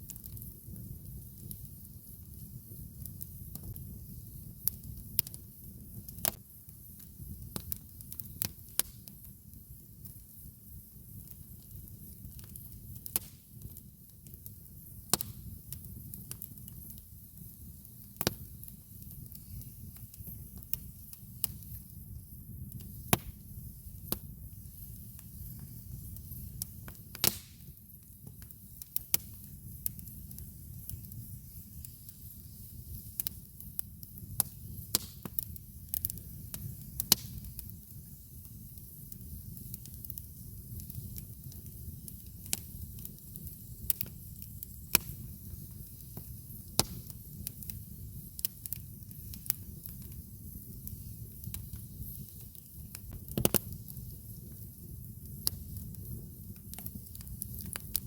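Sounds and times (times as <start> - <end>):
low rush of flame: 0.0 - 58.0
wood crackling and popping: 0.0 - 58.0.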